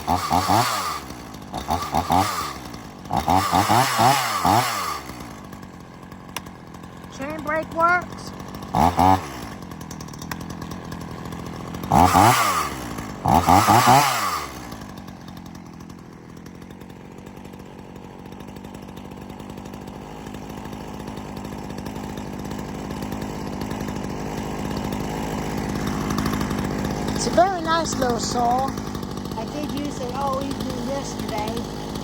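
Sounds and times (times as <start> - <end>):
chainsaw idling and revving: 0.0 - 32.0.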